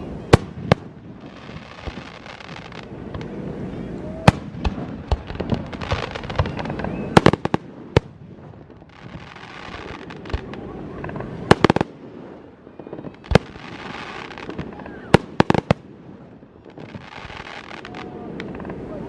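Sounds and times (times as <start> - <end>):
firework bangs: 0.0 - 19.0
fireworks crackling hiss: 0.0 - 19.0.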